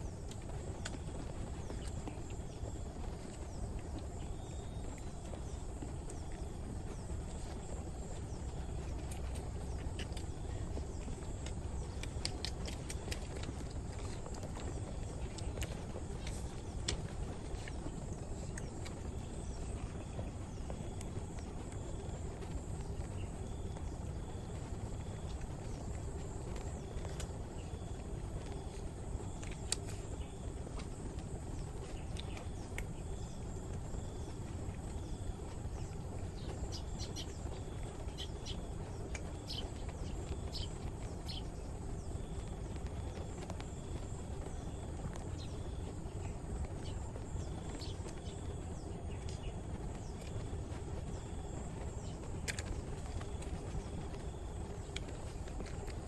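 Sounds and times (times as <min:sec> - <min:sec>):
faint clicks and chirps: 0:00.0 - 0:56.0.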